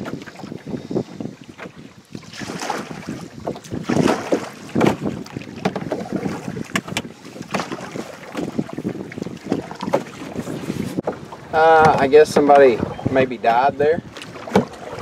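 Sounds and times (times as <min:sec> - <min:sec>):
waves slapping against canoe hull: 0:00.0 - 0:15.0
wind buffeting microphone: 0:00.0 - 0:15.0.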